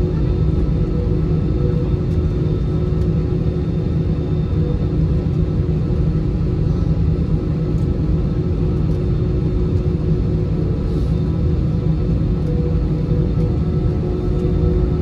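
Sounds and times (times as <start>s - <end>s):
aircraft cabin engine rumble: 0.0s - 15.0s
faint steady whine tones: 0.0s - 15.0s.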